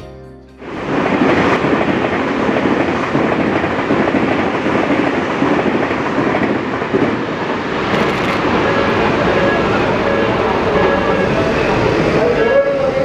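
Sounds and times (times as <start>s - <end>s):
train wheels rumbling on rails: 0.6s - 13.0s.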